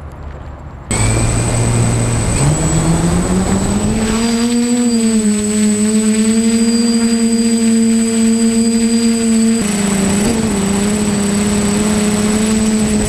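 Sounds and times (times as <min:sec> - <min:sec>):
drone electric motors whining: 0:00.9 - 0:13.0.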